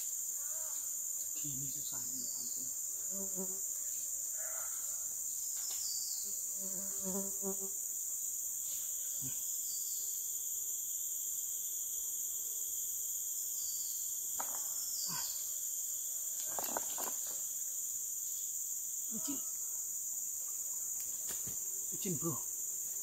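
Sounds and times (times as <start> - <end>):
insects shrilling: 0.0 - 23.0
steady insect tone: 0.0 - 23.0.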